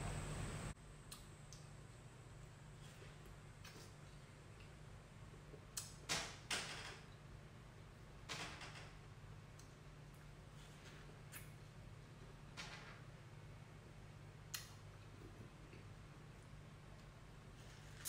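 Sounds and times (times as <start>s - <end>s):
low steady hum: 0.0s - 6.1s, 6.9s - 18.0s.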